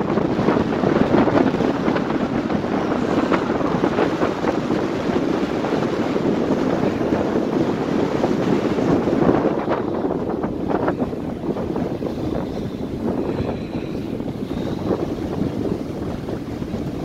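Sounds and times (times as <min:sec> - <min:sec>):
surf breaking against rocks: 0:00.0 - 0:17.0
wind buffeting microphone: 0:00.0 - 0:17.0.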